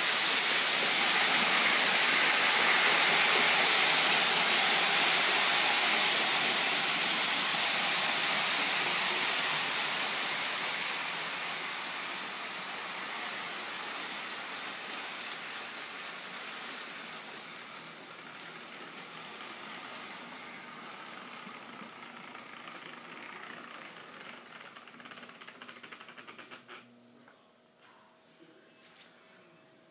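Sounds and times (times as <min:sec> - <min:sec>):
model train running noise: 0:00.0 - 0:26.6.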